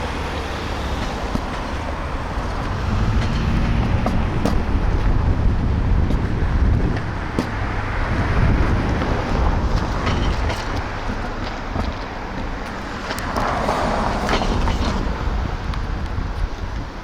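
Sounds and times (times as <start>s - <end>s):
freight train rumbling past: 0.0s - 17.0s
wheels clicking on rails: 0.0s - 17.0s
wind noise on microphone: 0.0s - 17.0s.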